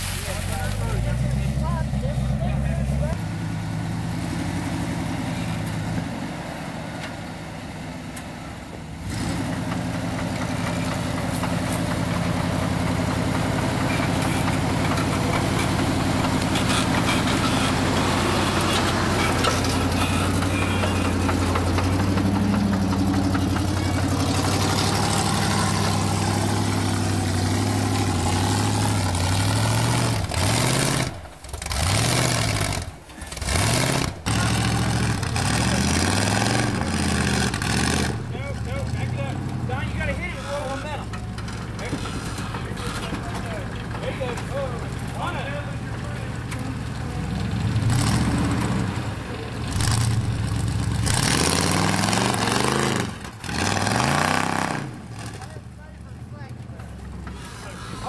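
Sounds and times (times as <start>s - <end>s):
truck engine under load: 0.0s - 58.0s.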